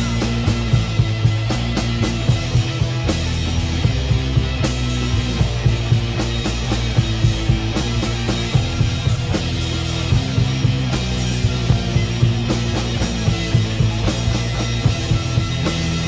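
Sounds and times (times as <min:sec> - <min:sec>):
bass guitar: 0:00.0 - 0:16.0
drum kit beat: 0:00.0 - 0:16.0
electric guitars: 0:00.0 - 0:16.0.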